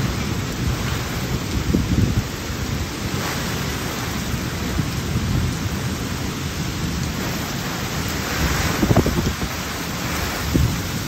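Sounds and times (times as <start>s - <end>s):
gusting wind rumble: 0.0s - 11.0s
heavy rain hissing: 0.0s - 11.0s.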